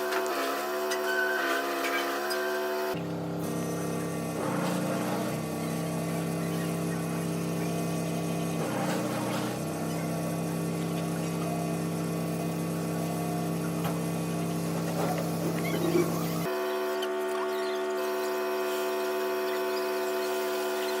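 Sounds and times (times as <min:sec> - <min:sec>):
small electric motor humming: 0:00.0 - 0:21.0.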